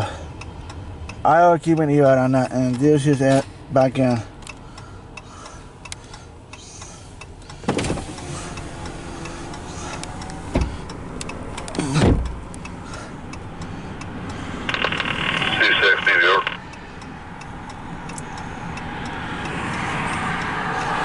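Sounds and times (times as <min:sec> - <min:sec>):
vehicle rumble: 0:00.0 - 0:21.0
vehicles passing: 0:00.0 - 0:21.0.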